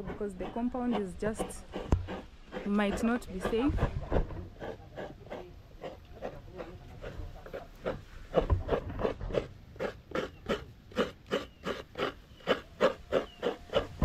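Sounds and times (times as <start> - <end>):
coconut grating scraping strokes: 0.0 - 14.0.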